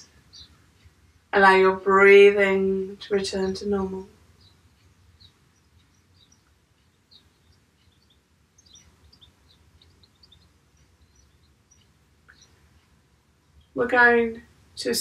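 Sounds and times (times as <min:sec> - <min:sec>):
low room hum: 0:00.0 - 0:15.0
small birds chirping: 0:00.0 - 0:15.0.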